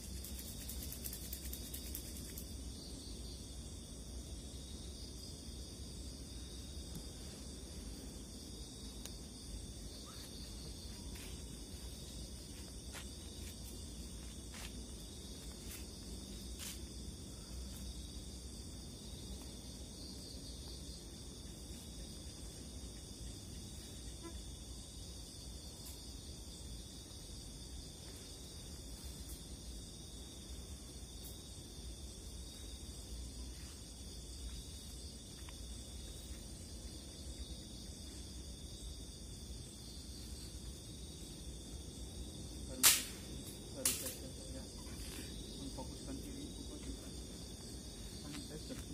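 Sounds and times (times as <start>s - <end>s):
crickets and insects chorus: 0.0s - 48.9s.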